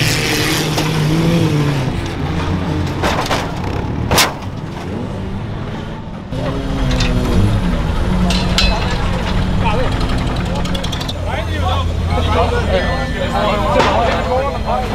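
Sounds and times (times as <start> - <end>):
race car engines revving: 0.0 - 14.9.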